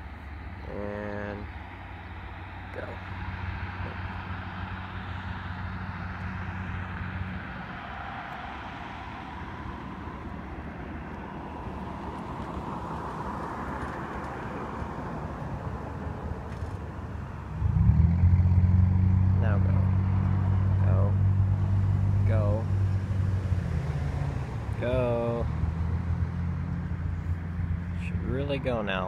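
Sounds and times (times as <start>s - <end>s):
loud low engine hum: 0.0s - 29.0s
road traffic: 0.0s - 29.0s
car driving past: 2.5s - 28.3s.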